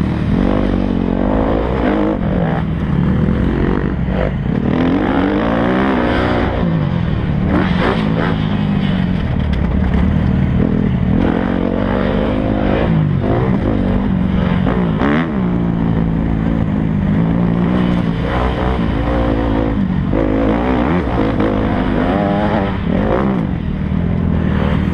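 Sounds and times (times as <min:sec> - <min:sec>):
motocross bike engine revving: 0:00.0 - 0:24.9.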